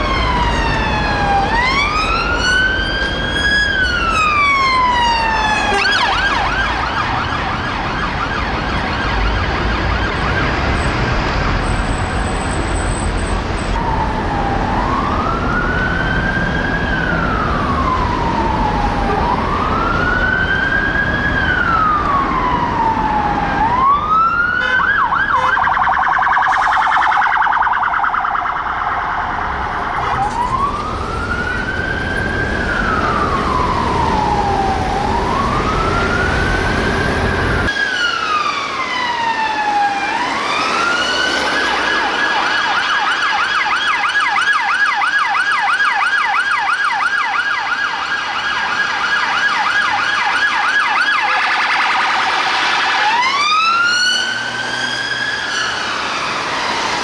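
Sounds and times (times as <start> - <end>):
police siren wailing and yelping: 0.0 - 57.0
traffic rumble: 0.0 - 57.0.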